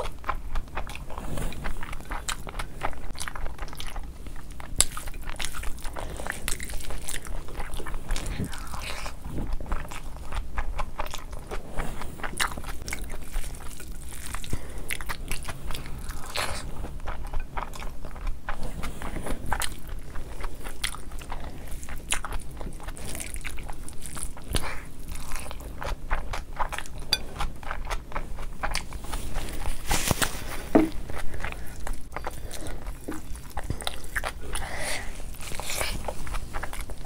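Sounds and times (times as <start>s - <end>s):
wet chewing and mouth clicks: 0.0s - 37.0s.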